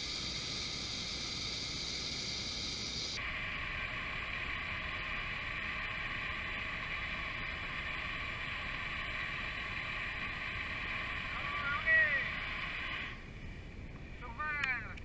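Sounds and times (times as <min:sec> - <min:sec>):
jet ski engine running: 0:00.0 - 0:13.2.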